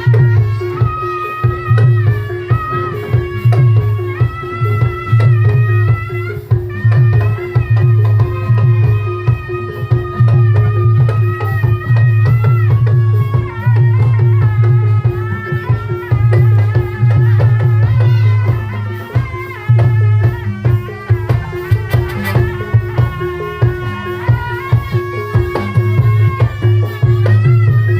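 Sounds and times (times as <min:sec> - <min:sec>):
hand-drumming and percussion: 0:00.0 - 0:27.9.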